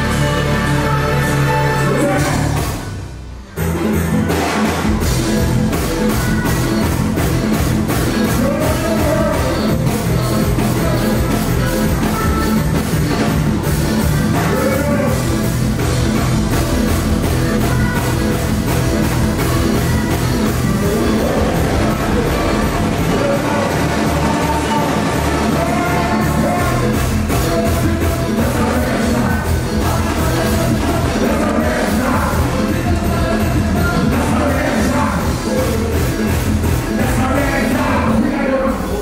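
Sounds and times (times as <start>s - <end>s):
vocalist singing: 0.0s - 2.7s, 5.0s - 15.5s, 17.2s - 39.0s
live band music with driving beat: 0.0s - 39.0s.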